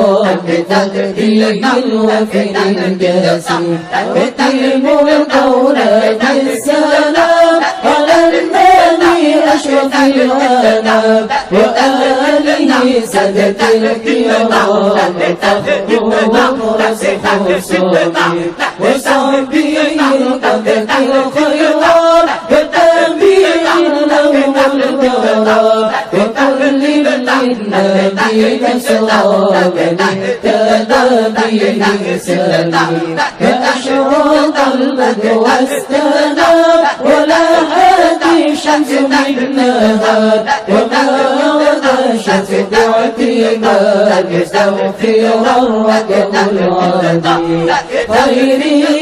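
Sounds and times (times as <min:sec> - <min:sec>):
congregation chanting: 0:00.0 - 0:49.0.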